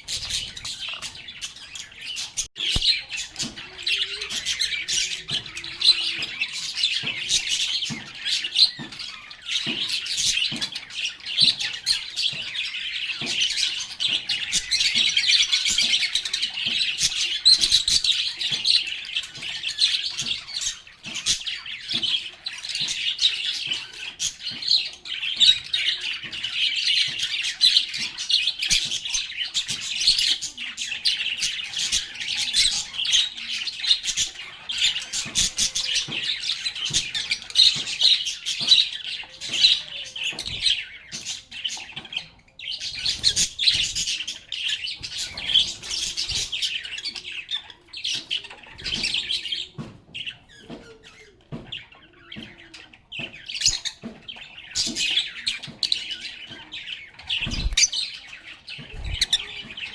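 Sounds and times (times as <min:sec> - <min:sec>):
birds chirping and squawking: 0:00.0 - 0:59.9.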